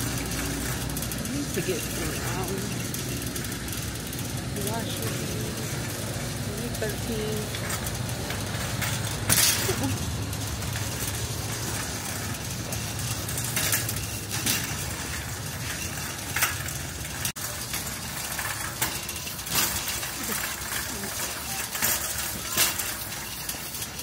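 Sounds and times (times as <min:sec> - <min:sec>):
clinks and rattles: 0:00.0 - 0:24.0.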